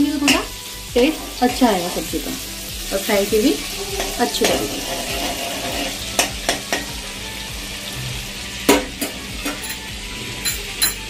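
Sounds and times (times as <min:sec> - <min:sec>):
oil and butter sizzling: 0:00.0 - 0:11.0.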